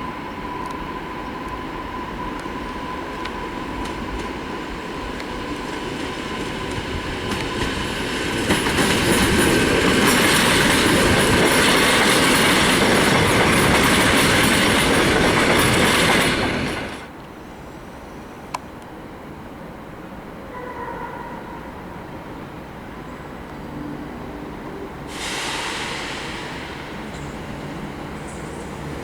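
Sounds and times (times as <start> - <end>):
electric train running on track: 0.0 - 17.3, 18.1 - 29.0.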